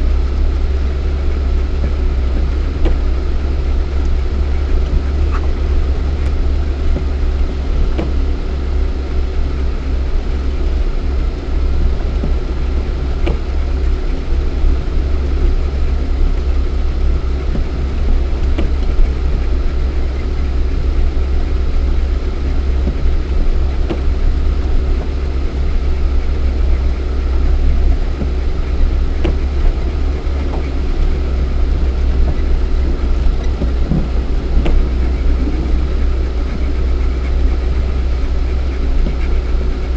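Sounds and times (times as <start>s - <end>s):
car engine rumbling from inside: 0.0s - 39.9s.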